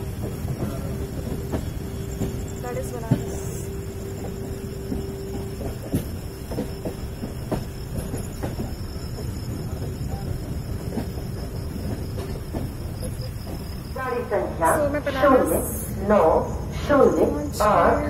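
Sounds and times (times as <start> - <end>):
clicks and clanks over track: 0.0 - 16.3
thin steady whine: 0.0 - 18.0
train wheels rumbling on rail: 0.0 - 18.0.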